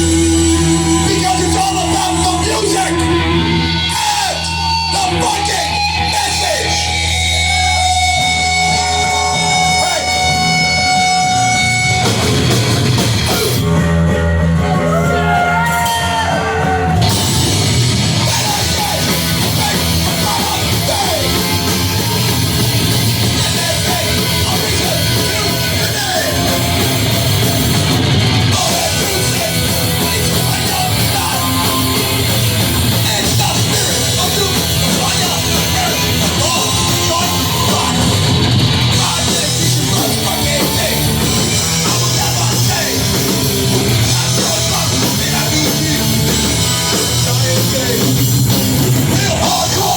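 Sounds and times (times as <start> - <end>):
bass guitar: 0.0 - 49.9
distorted electric guitars: 0.0 - 49.9
pounding drum kit: 0.0 - 49.9.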